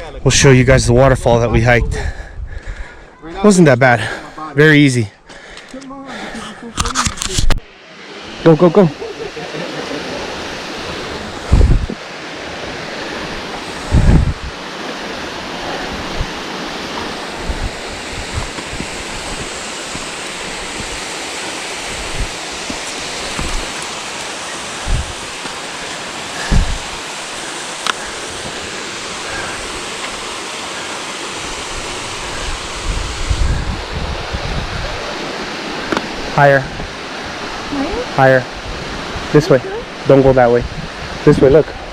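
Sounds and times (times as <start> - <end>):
waterfall rushing: 7.4 - 41.9.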